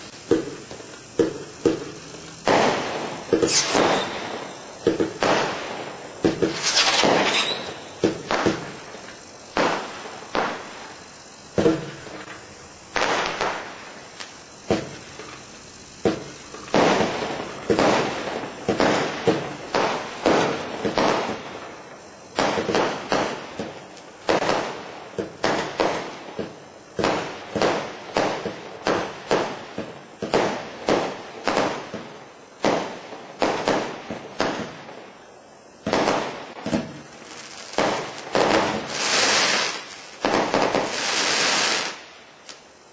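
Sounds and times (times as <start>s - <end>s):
firework cake bangs: 0.0s - 10.9s, 11.5s - 12.3s, 12.9s - 13.8s, 14.6s - 15.4s, 16.0s - 21.6s, 22.3s - 34.9s, 35.8s - 42.0s
firework crackling: 0.0s - 42.9s.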